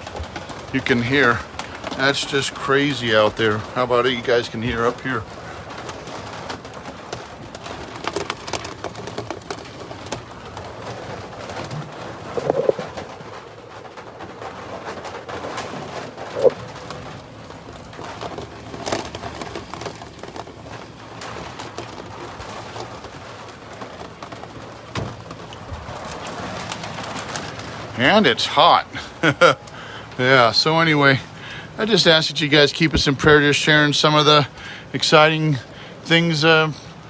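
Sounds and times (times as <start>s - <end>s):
trailer rattles and knocks: 0.0s - 37.0s.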